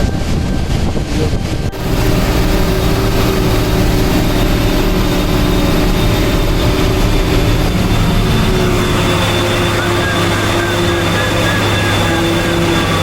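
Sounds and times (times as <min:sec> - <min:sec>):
road rumble noise: 0:00.0 - 0:13.0
truck engine running: 0:00.0 - 0:13.0.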